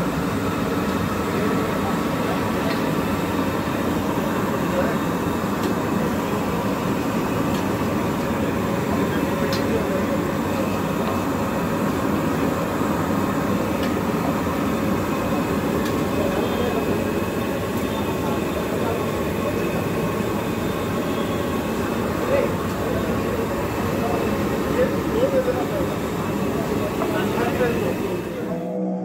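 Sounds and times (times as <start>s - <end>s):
gas burner roaring: 0.0s - 29.0s.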